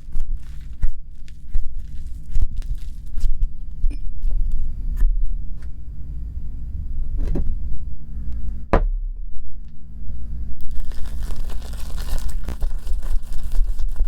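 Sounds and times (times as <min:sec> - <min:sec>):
low rumble of handling: 0:00.0 - 0:14.0.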